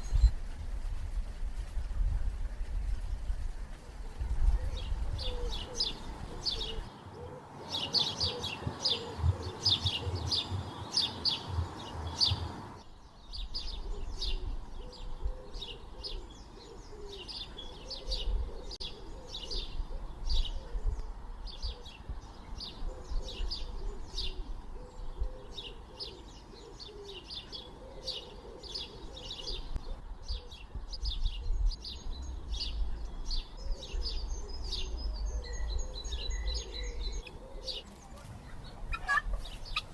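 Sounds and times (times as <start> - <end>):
birds chirping: 0.0 - 0.4, 4.0 - 39.9.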